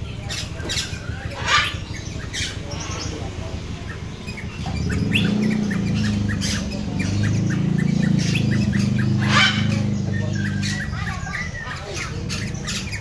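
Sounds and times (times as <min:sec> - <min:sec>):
bird harsh squawk: 0:00.0 - 0:13.0
birds chirping: 0:00.0 - 0:13.0
steady low hum: 0:00.0 - 0:13.0.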